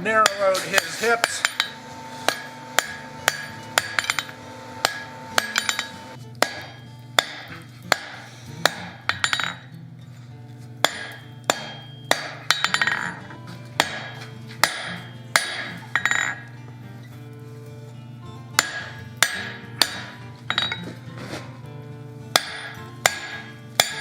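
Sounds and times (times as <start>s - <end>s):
hammer striking steel on anvil: 0.0s - 9.7s, 10.8s - 16.5s, 18.6s - 21.0s, 22.3s - 24.0s.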